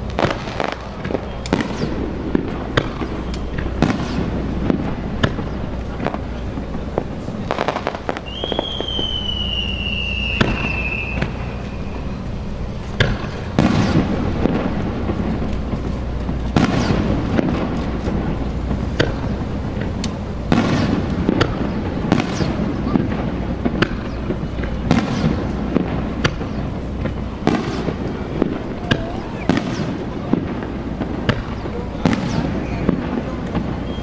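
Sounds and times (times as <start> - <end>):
high firework whistle: 0.0 - 6.2, 6.8 - 34.0
firework shells bursting: 0.0 - 34.0
low rumble: 0.0 - 34.0.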